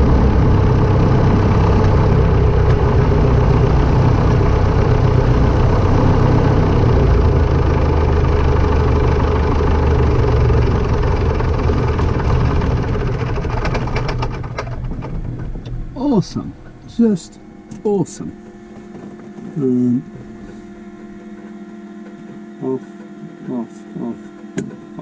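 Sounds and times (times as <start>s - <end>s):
light aircraft piston engine: 0.0s - 25.0s.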